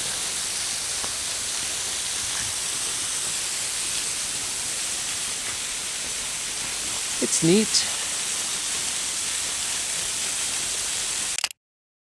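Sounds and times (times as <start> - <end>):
small waterfall rushing: 0.0 - 11.4.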